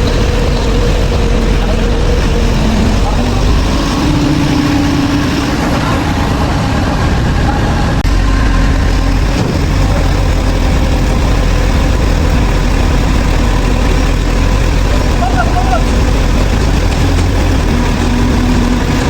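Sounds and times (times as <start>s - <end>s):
heavy vehicle engine idling: 0.0s - 19.0s.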